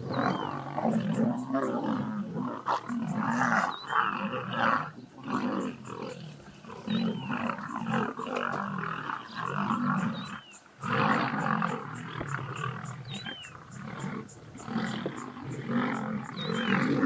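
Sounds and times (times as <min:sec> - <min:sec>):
big cat roaring and growling: 0:00.0 - 0:17.0.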